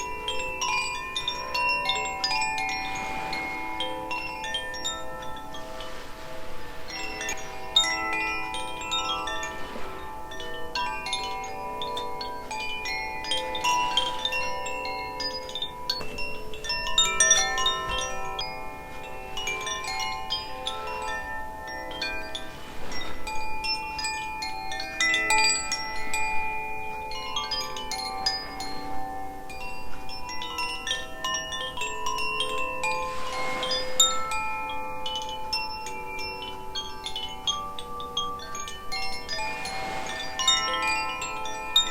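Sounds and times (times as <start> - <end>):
metal chimes ringing: 0.0 - 41.9.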